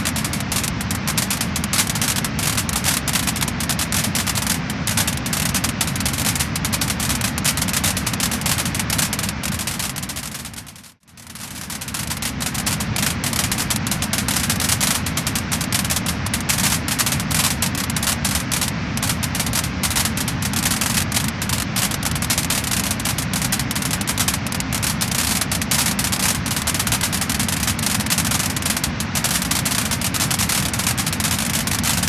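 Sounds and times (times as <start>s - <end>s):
fire crackling and popping: 0.0s - 32.0s
low fire rumble: 0.0s - 32.0s.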